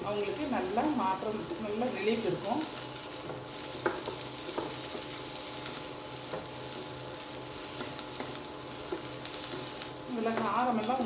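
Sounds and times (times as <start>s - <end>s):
leaves sizzling in oil: 0.0s - 11.0s.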